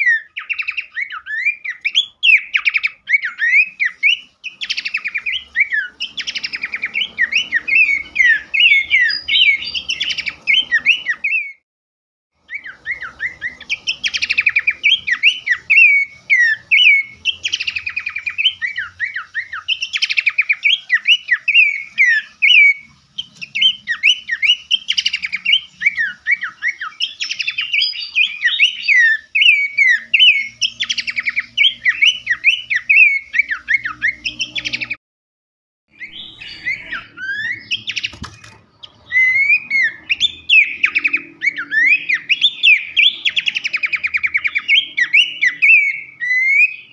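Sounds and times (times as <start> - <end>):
songbird chirps and trills: 0.0 - 11.6, 12.4 - 35.0, 35.9 - 46.9.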